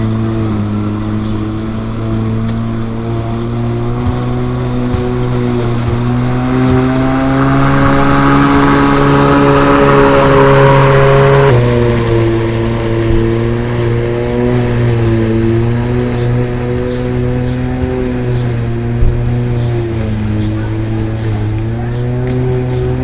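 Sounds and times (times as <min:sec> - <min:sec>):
lawn mower cutting grass: 0:00.0 - 0:23.0.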